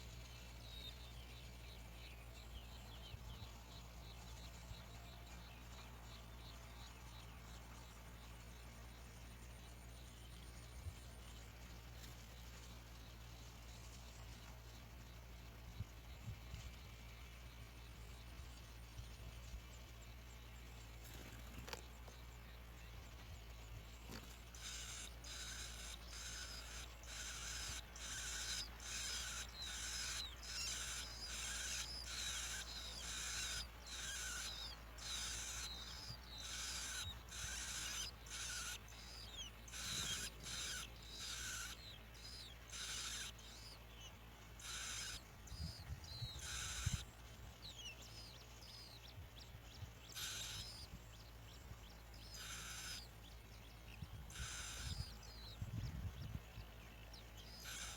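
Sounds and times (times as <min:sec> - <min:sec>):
harsh bird calls: 0:00.0 - 0:57.9.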